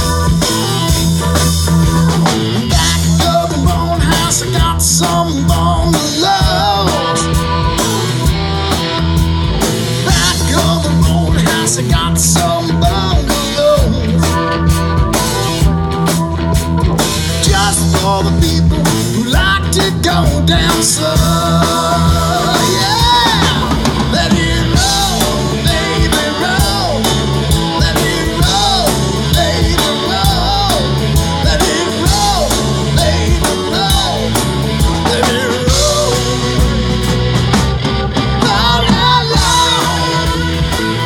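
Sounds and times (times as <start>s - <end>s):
drum-kit beat: 0.0s - 41.0s
electric guitars: 0.0s - 41.0s.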